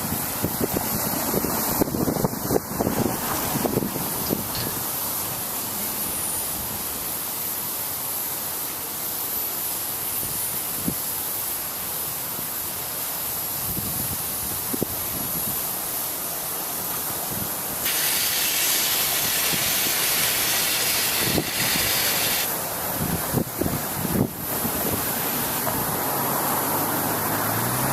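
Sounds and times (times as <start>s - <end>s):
steam hissing: 0.0s - 27.9s.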